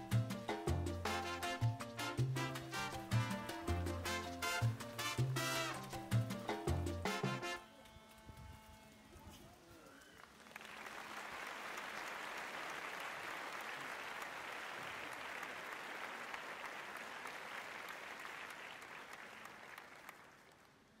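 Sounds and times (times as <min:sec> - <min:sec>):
many hands clapping: 0:00.1 - 0:07.4, 0:10.1 - 0:21.0.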